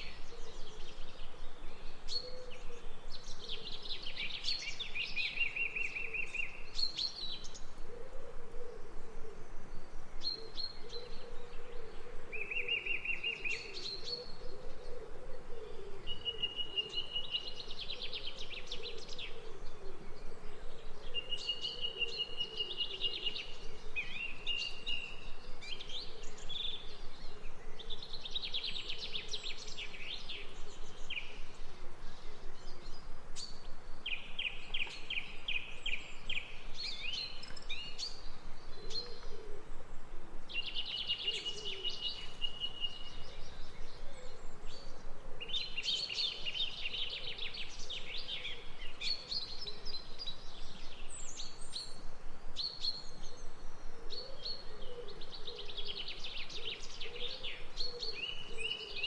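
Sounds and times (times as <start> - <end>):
songbirds singing: 0.0 - 59.0
steady background hiss: 0.0 - 59.0.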